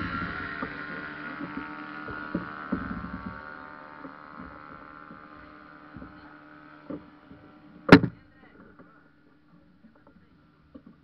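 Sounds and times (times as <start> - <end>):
ultralight trike engine idling: 0.0 - 11.0.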